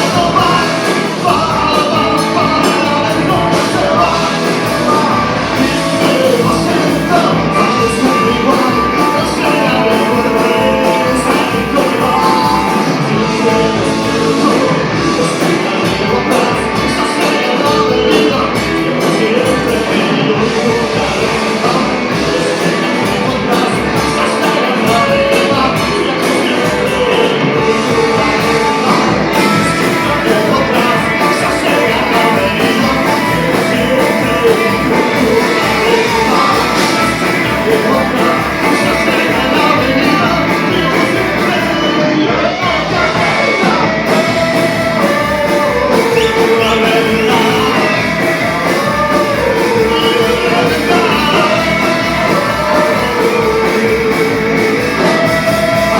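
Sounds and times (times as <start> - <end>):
person singing: 0.0 - 55.9
rock band playing live: 0.0 - 55.9
steady drum beat: 0.0 - 55.9.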